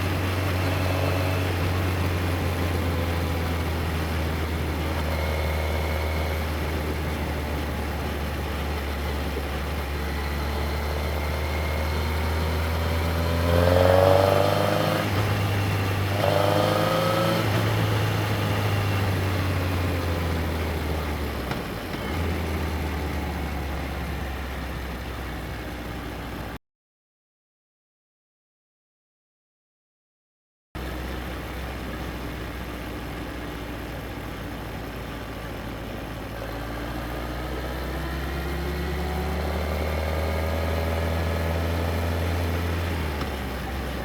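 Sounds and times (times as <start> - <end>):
motorcycle engine revving: 0.0 - 26.3, 34.2 - 44.0.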